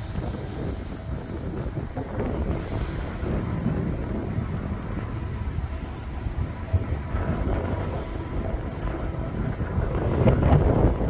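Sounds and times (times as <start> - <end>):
freight train rumbling past: 0.0 - 11.0
wind buffeting microphone: 0.0 - 11.0.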